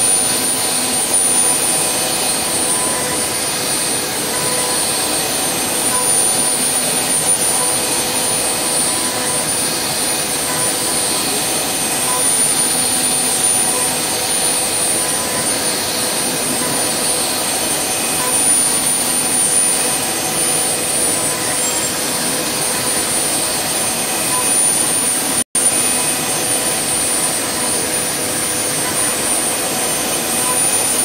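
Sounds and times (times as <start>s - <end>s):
cnc spindle cutting wood: 0.0s - 31.0s.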